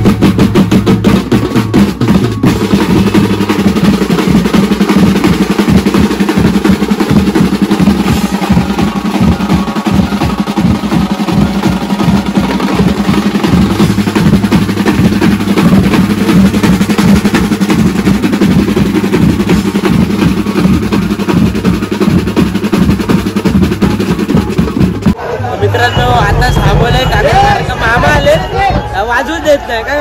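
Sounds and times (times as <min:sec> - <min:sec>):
procession band drums playing: 0:00.0 - 0:29.6.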